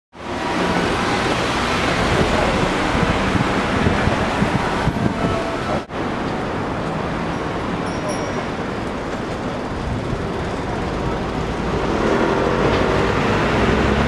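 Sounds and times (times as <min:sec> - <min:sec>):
road traffic: 0:00.1 - 0:14.0.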